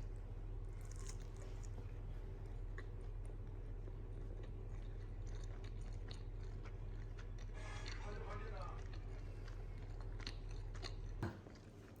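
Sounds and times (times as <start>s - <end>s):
faint chewing: 0.7s - 12.0s.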